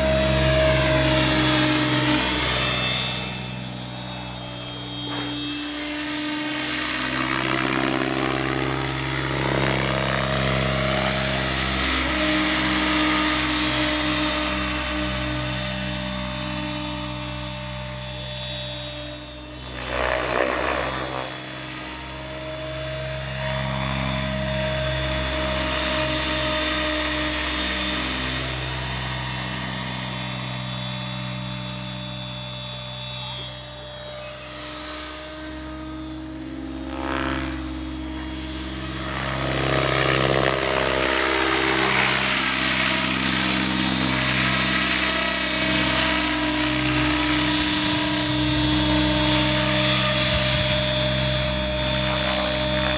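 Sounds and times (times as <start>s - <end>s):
model helicopter rotor hum: 0.0s - 52.9s.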